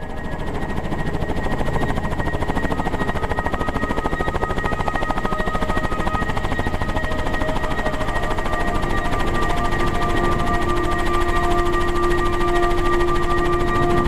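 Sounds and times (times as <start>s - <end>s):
helicopter high whines: 0.0s - 14.0s
helicopter rotor beating: 0.0s - 14.0s.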